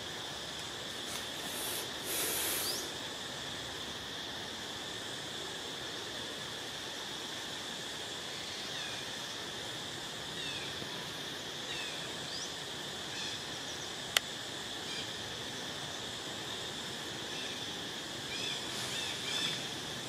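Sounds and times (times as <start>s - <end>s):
high insect hum: 0.0s - 20.0s.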